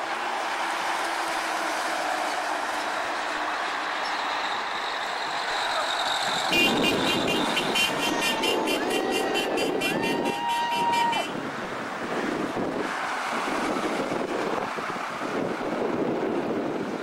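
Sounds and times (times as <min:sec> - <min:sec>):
minivan passing close: 0:00.0 - 0:17.0
road traffic passing: 0:00.0 - 0:17.0.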